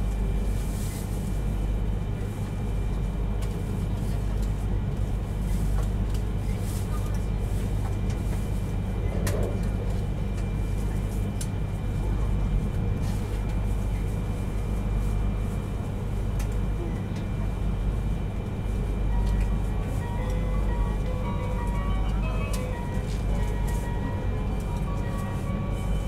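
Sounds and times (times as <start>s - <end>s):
train running at speed: 0.0s - 26.0s.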